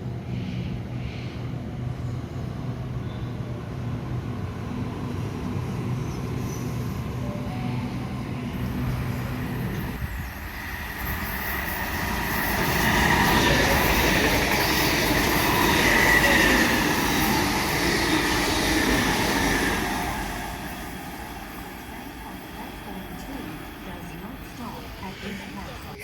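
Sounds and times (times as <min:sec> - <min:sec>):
electric train passing with whine: 0:00.0 - 0:26.0.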